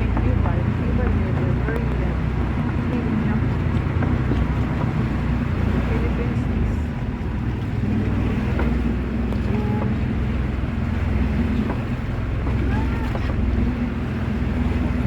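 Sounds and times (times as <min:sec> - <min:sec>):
boat engine droning: 0:00.0 - 0:15.0
water rushing past hull: 0:00.0 - 0:15.0
wind buffeting microphone: 0:00.0 - 0:15.0.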